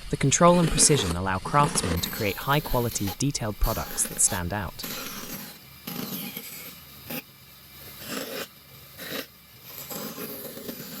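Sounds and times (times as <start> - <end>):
hand tool scraping wood: 0.0 - 11.0.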